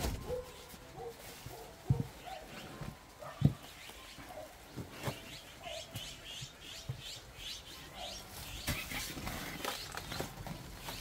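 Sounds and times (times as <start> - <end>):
bird chirping: 2.0 - 11.0.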